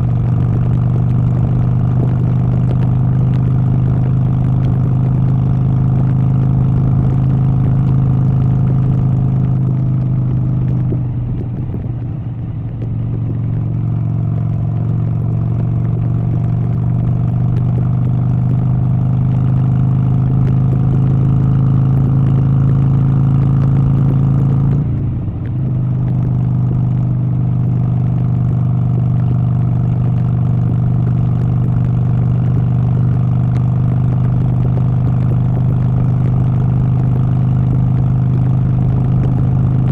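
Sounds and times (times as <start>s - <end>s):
engine humming: 0.0s - 39.9s.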